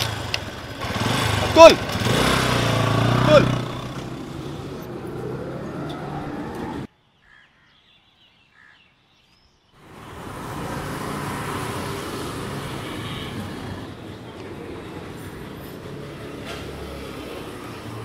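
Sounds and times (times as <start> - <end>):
motor scooter engine: 0.0 - 6.9, 9.8 - 18.0
motor vehicle and street noise: 0.0 - 6.9, 9.8 - 18.0
motorcycle engine: 0.0 - 6.9, 9.8 - 18.0.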